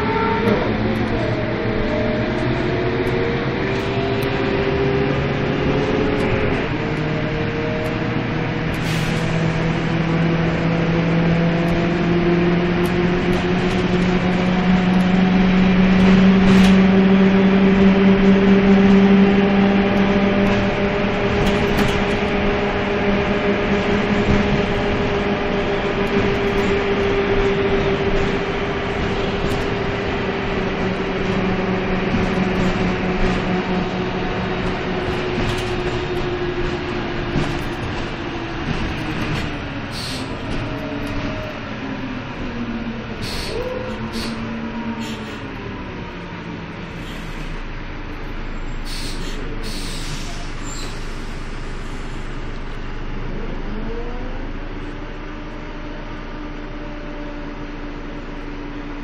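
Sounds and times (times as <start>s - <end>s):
bus diesel engine hum: 0.0s - 59.0s.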